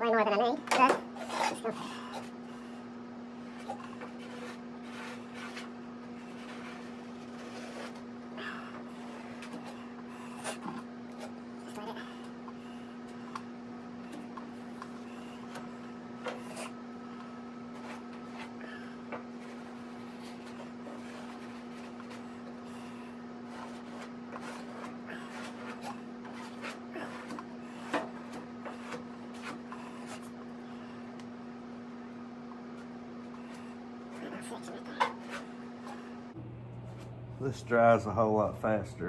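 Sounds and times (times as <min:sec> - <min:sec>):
steady hum: 0:00.0 - 0:39.0.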